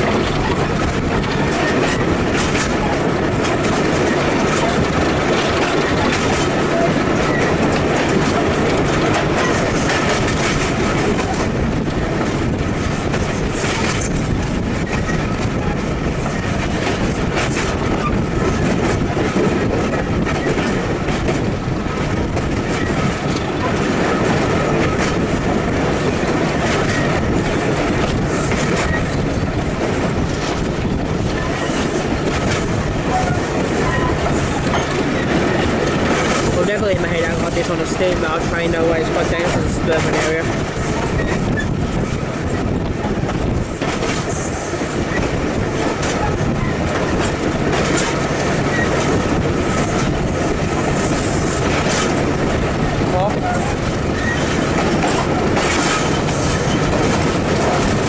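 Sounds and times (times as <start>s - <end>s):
train rumble: 0.0s - 58.0s
train wheels clattering over rail joints: 0.0s - 58.0s.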